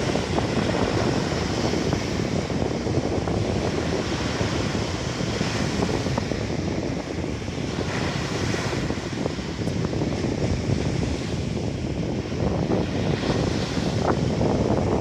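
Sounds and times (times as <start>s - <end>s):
small sea waves on shore: 0.0s - 15.0s
wind buffeting microphone: 0.0s - 15.0s.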